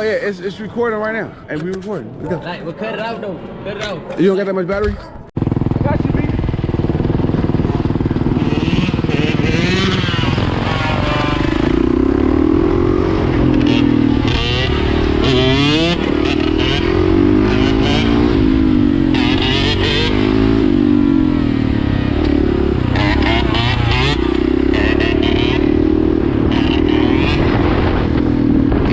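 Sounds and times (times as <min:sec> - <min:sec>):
dirt bike engine revving: 0:00.0 - 0:01.4, 0:05.4 - 0:28.9.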